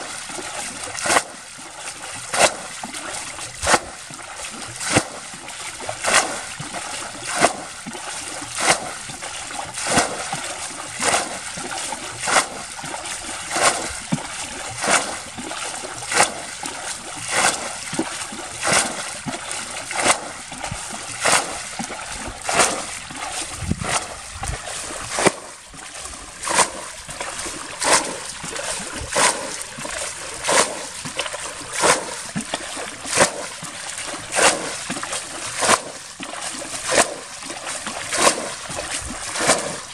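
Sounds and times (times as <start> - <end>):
water splashing from bailing: 0.0 - 39.9.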